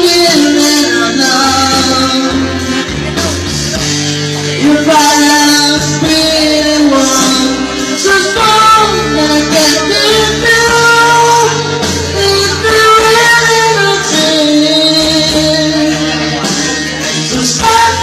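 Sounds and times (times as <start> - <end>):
instrumental backing music: 0.0 - 18.0.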